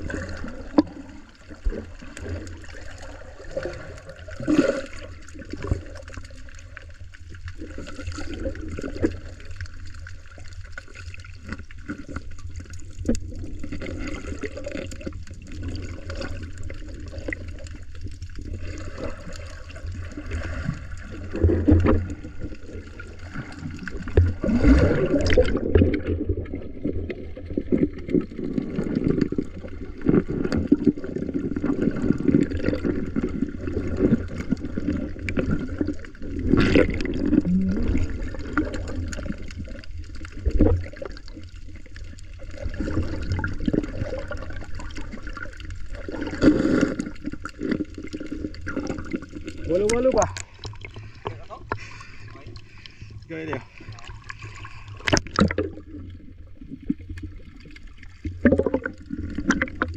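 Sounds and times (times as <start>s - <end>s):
muffled water sloshing underwater: 0.0s - 59.9s.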